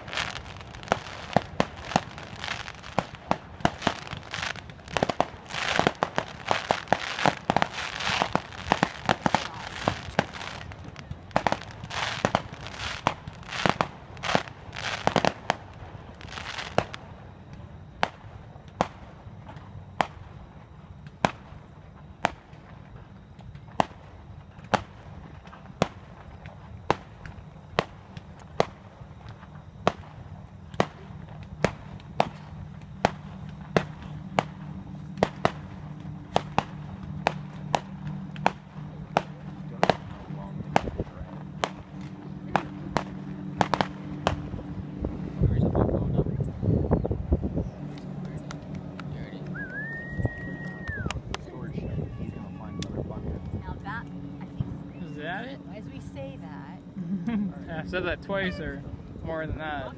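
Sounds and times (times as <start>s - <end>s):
fireworks bangs: 0.0s - 56.9s
fireworks bursting and crackling: 0.0s - 59.9s.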